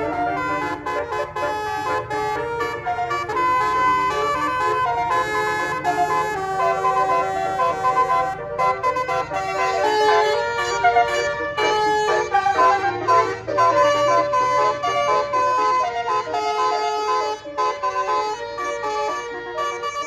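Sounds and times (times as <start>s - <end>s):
musical bus horn playing tune: 0.0s - 20.0s.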